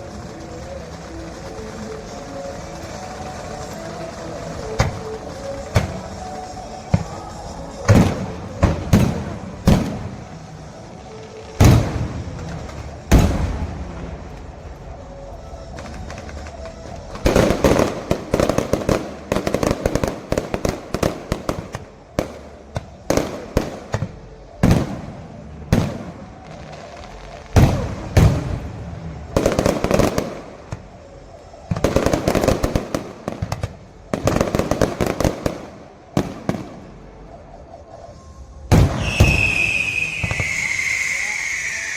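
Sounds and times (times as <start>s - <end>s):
fireworks crackling bangs: 0.0s - 41.9s
fireworks heavy booms: 0.0s - 41.9s.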